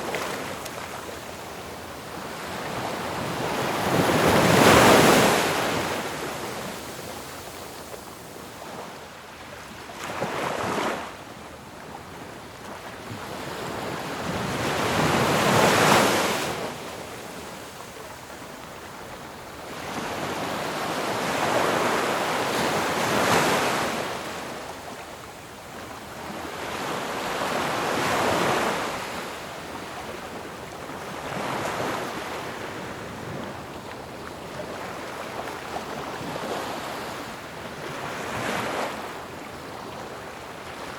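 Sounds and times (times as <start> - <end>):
waves breaking on shore: 0.0 - 11.2, 11.9 - 40.9.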